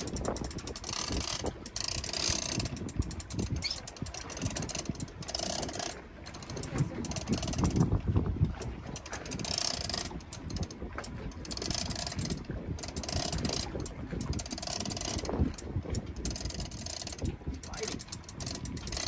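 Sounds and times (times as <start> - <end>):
fishing reel gears whirring: 0.0 - 19.0.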